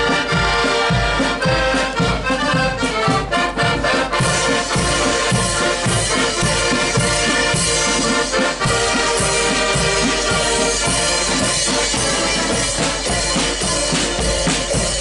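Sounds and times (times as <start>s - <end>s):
accordions playing chords: 0.0s - 15.0s
side drums: 0.0s - 15.0s.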